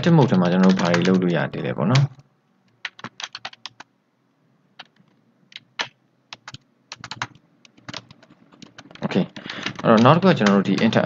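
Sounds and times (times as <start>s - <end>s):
computer keyboard typing: 0.0s - 2.2s, 2.8s - 3.9s, 4.8s - 11.0s.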